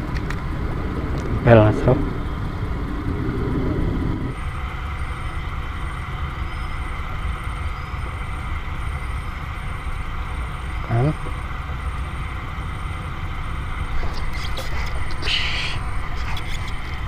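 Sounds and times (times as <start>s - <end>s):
low hum: 0.0s - 17.0s
low rumbling noise: 0.0s - 17.0s.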